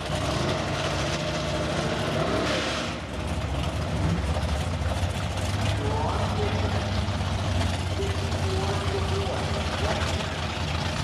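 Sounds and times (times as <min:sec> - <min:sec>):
drag racing car engines: 0:00.0 - 0:11.0.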